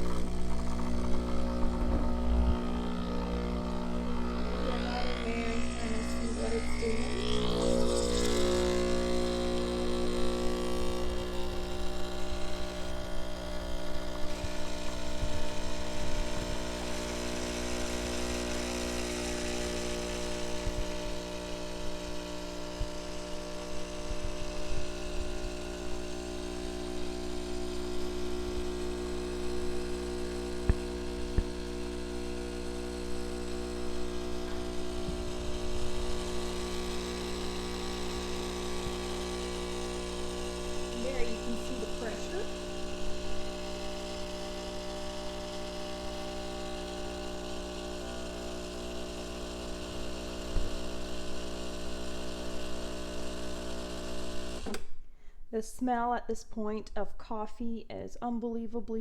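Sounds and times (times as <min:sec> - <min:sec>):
espresso machine pump buzzing: 0:00.0 - 0:55.0.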